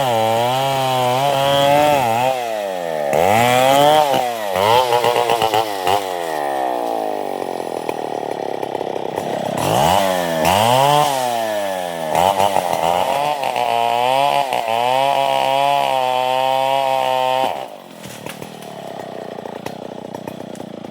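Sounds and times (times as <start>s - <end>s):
chainsaw revving: 0.0s - 20.9s.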